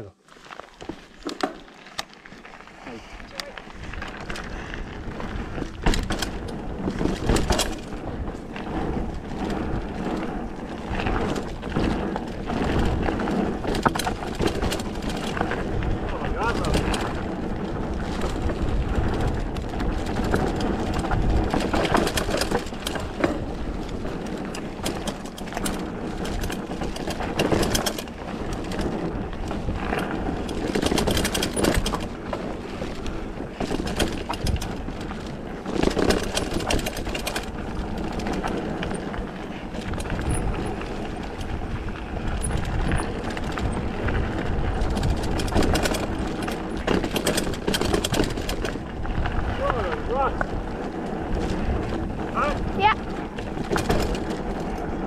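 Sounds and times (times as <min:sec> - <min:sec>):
tyres on gravel: 0:00.0 - 0:55.0
bike clattering rattles: 0:00.4 - 0:55.0
wind rumbling on microphone: 0:02.5 - 0:55.0.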